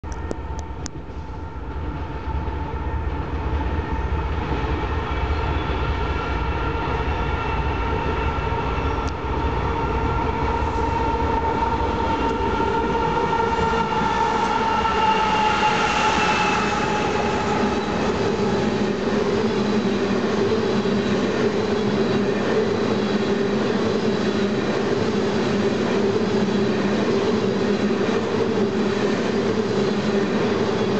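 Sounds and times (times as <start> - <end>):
diesel locomotives passing: 0.1 - 30.9
train wheels rolling on rails: 0.1 - 30.9.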